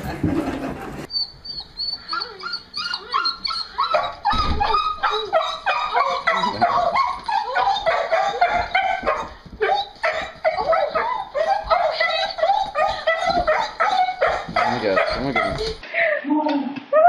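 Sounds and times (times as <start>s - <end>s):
small dog whining and yelping: 1.1s - 15.8s.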